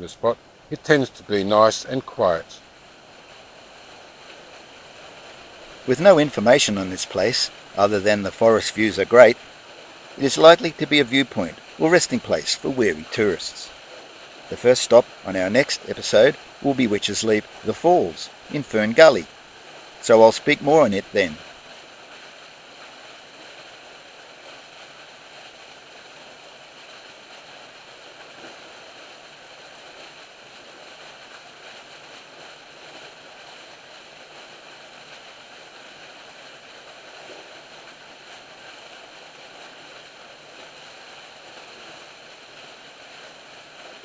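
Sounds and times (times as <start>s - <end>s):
outdoor ambient hiss: 0.0s - 44.0s.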